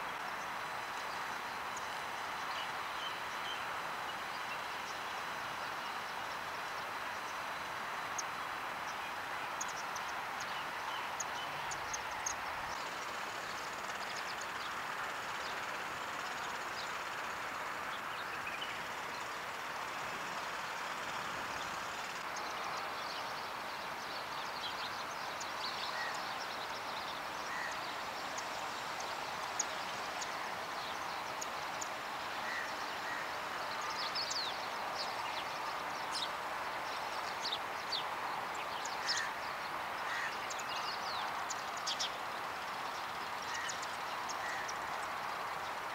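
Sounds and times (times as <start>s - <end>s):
birds giving high thin chirps: 0.0s - 45.9s
steady rushing background noise: 0.0s - 45.9s.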